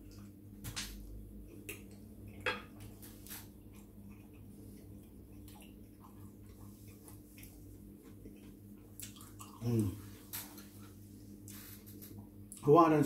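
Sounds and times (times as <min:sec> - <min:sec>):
faint hum: 0:00.0 - 0:13.0
chewing: 0:01.4 - 0:12.6.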